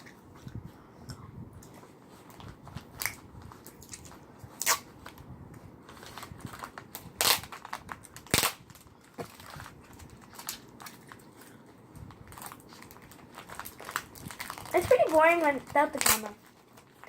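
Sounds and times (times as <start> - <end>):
paper and tape crackling: 1.8 - 17.0.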